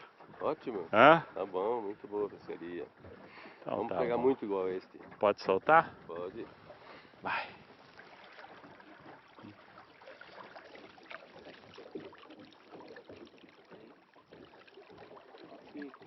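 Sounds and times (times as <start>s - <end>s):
water lapping around boat: 0.0s - 16.0s.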